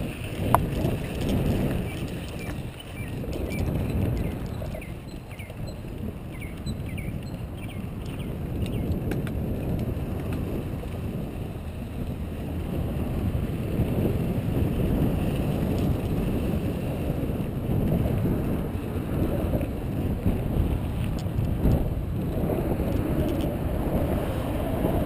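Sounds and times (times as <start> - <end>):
tyres rolling on dirt trail: 0.0 - 25.0
wind rumbling on microphone: 0.0 - 25.0.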